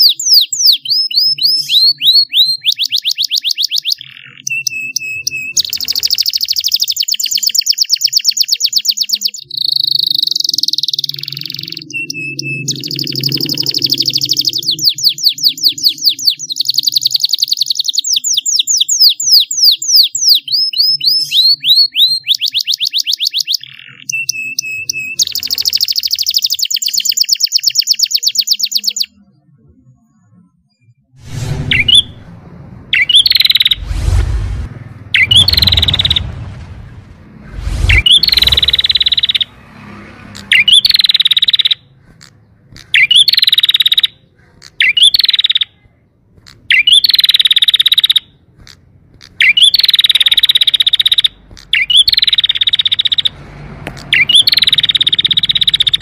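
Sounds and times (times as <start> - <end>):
canary singing trills: 0.0 - 30.9, 32.9 - 33.8, 35.1 - 36.3, 37.9 - 39.6, 40.2 - 56.0.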